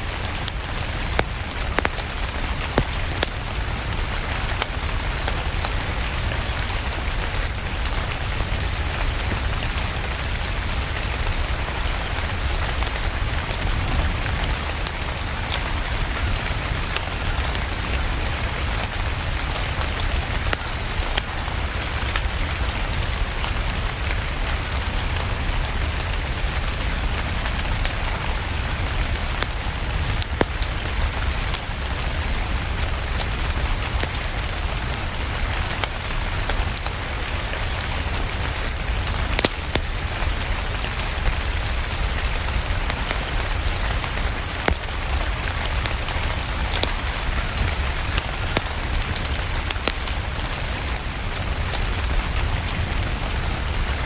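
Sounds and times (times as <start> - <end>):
steady rain falling: 0.0 - 54.0
sharp crackles: 0.2 - 22.7, 24.0 - 54.0.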